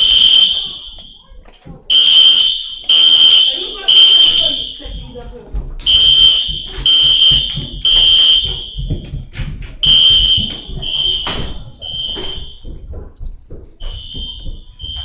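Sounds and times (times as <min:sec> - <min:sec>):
fire alarm beeping: 0:00.0 - 0:05.1, 0:05.8 - 0:09.2, 0:09.8 - 0:12.8, 0:13.8 - 0:15.0.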